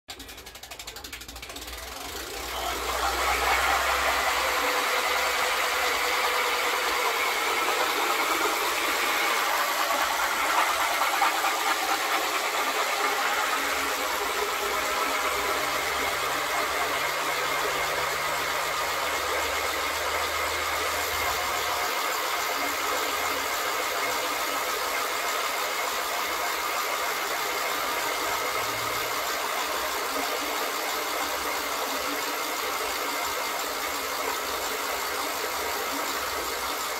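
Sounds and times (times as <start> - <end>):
reel ratchet whirring buzz: 0.1 - 36.9.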